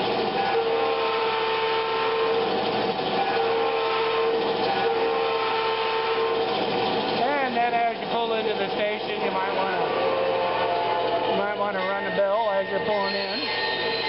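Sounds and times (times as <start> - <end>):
simulated diesel engine sound: 0.0 - 12.3.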